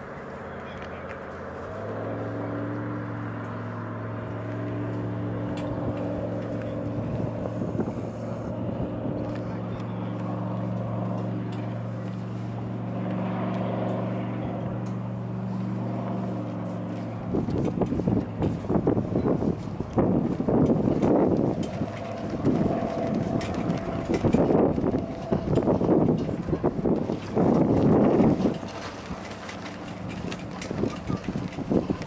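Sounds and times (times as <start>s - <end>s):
speedboat engine droning: 0.0s - 32.0s
wind buffeting microphone: 0.0s - 32.0s.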